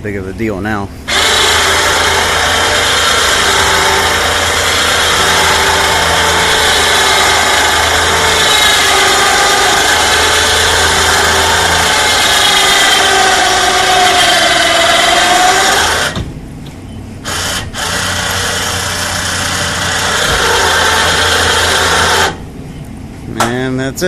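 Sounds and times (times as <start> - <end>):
electric winch motor whining: 1.1 - 16.2, 17.2 - 22.4.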